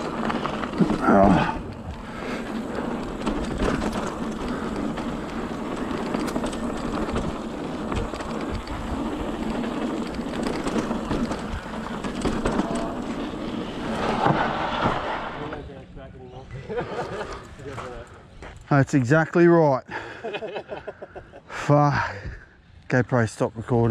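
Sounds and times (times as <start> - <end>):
bike clicking and rattling: 0.0 - 15.7, 16.6 - 20.8
bike tyres rolling on dirt: 0.0 - 20.2.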